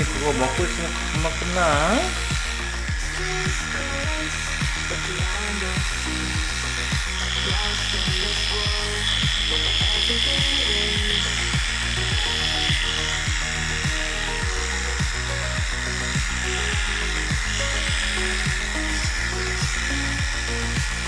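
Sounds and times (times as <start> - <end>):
background music with beat: 0.0 - 21.0
electric clipper buzzing: 0.0 - 21.0.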